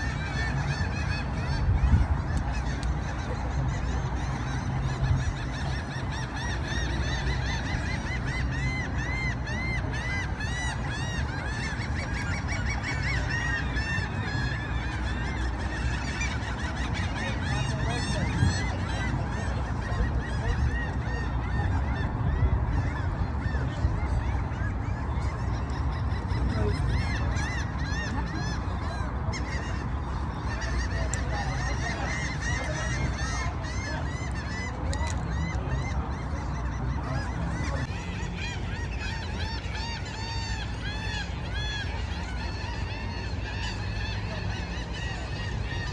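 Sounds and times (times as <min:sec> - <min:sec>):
flock of birds honking: 0:00.0 - 0:45.9.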